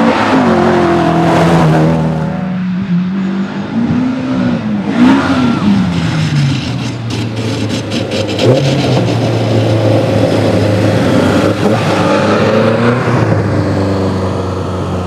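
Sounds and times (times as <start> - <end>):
rally car engine running: 0.0 - 15.0.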